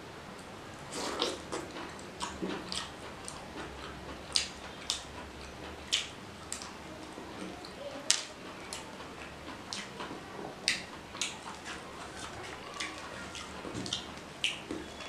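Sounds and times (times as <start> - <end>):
fingers mixing food on steel plate: 0.4 - 15.0
chewing: 0.8 - 15.0.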